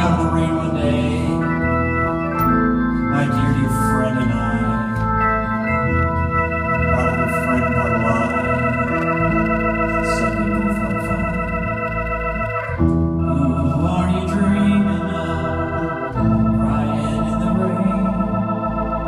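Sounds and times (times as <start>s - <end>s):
organ-like keyboard chords: 0.0s - 19.0s.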